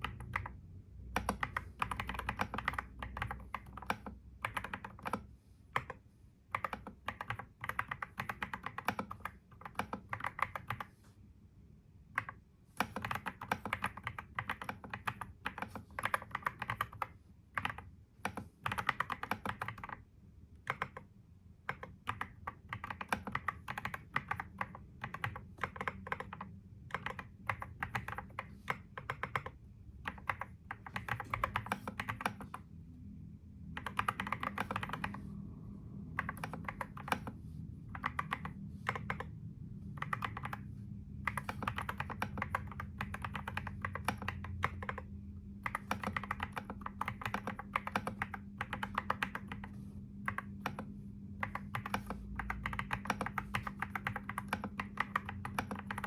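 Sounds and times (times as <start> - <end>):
typing on computer keyboard: 0.0 - 11.0, 12.2 - 20.0, 20.6 - 32.7, 33.7 - 35.3, 36.1 - 56.0
low steady hum: 0.0 - 56.0.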